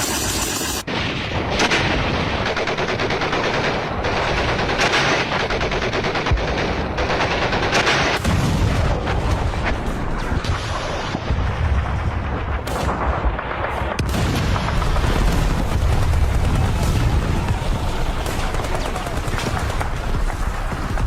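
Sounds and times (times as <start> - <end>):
machine-gun fire: 0.0 - 11.2, 12.0 - 21.0.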